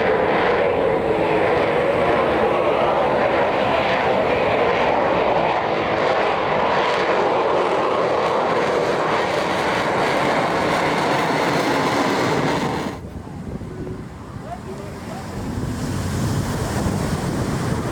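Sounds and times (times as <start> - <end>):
jet fighter engine rushing: 0.0 - 17.9.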